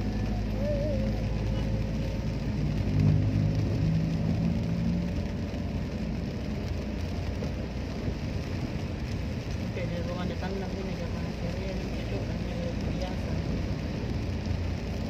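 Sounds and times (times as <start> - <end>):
car engine and road rumble: 0.0 - 15.0
rain: 0.0 - 15.0
tyres hissing on wet road: 0.0 - 15.0.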